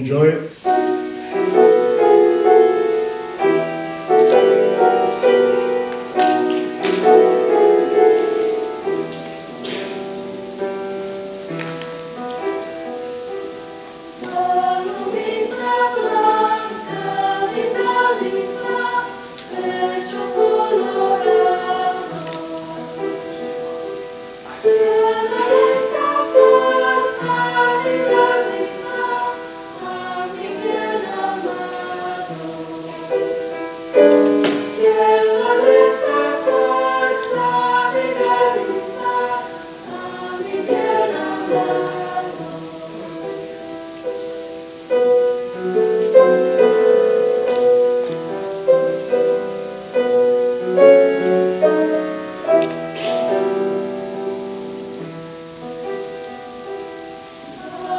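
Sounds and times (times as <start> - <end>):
choir singing in harmony: 0.6 - 57.9.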